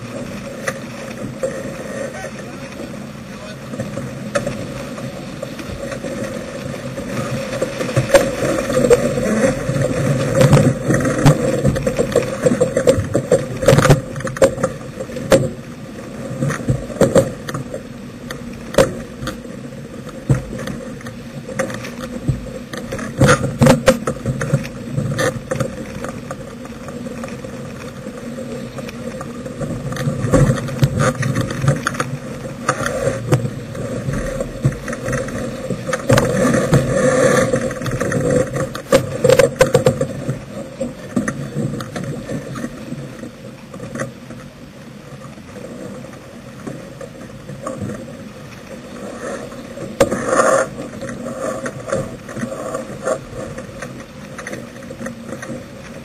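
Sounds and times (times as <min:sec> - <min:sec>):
rushing water: 0:00.0 - 0:56.0
wind: 0:00.0 - 0:56.0.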